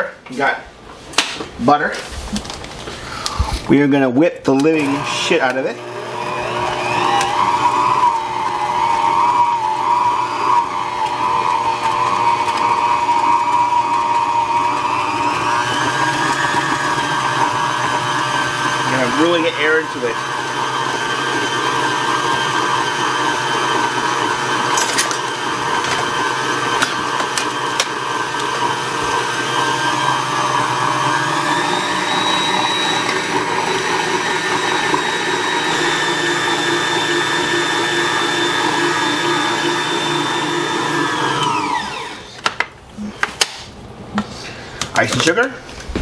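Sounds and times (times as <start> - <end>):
stand mixer motor whine: 4.7 - 42.3.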